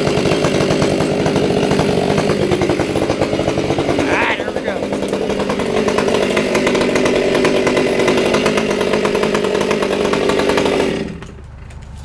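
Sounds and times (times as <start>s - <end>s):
chainsaw cutting at full throttle: 0.0s - 11.5s
chainsaw idling: 0.0s - 11.9s.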